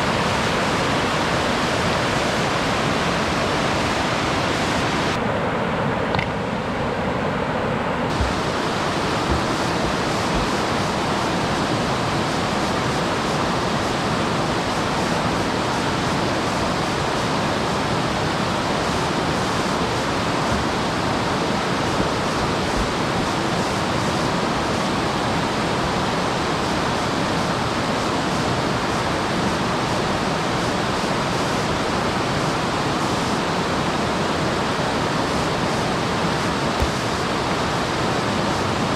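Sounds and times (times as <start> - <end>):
falling water rushing: 0.0 - 5.2, 8.0 - 38.9.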